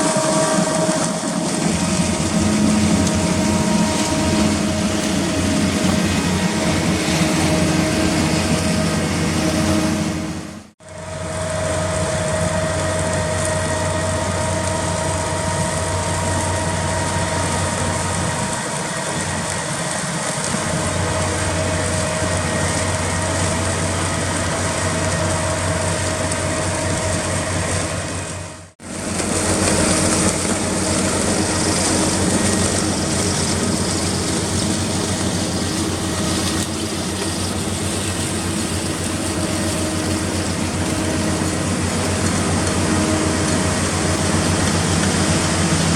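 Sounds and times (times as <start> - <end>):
heavy machinery engine hum: 0.0 - 45.9
machine whine: 0.0 - 45.9.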